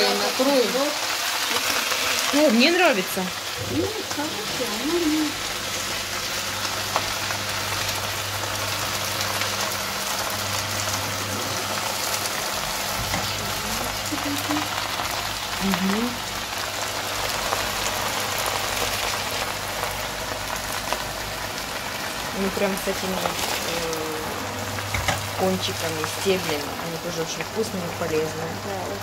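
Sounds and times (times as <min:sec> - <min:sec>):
spinach sizzling in frying pan: 0:00.0 - 0:29.0.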